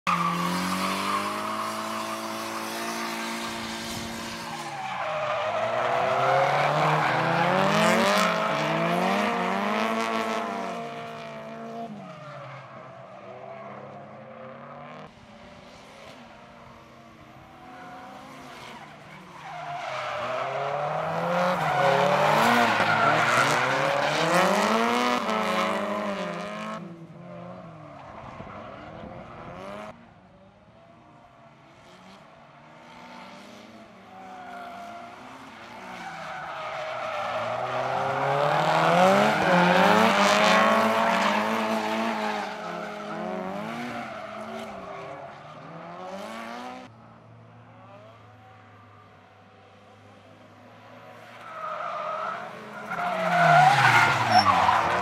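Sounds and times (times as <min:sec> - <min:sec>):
car engines revving: 0:00.0 - 0:30.1, 0:31.0 - 0:55.0.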